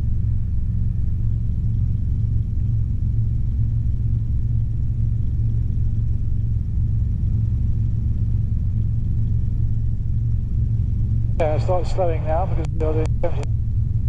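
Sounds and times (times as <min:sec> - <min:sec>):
helicopter engine and rotors rumbling: 0:00.0 - 0:14.0.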